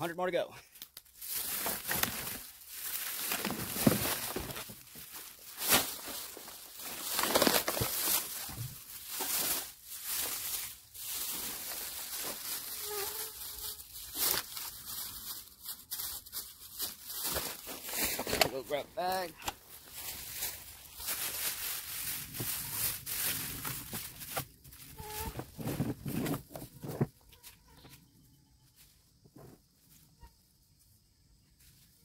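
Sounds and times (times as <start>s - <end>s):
plastic trash bag rustling: 1.2s - 26.9s.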